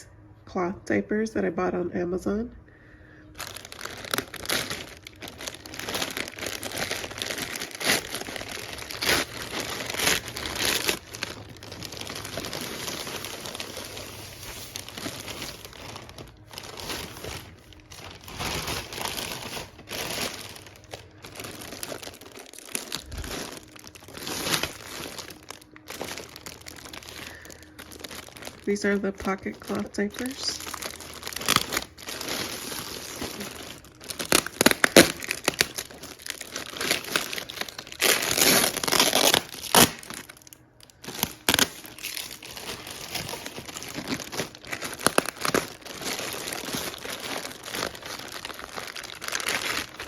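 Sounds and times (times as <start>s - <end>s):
packaging crinkling: 2.9s - 50.0s.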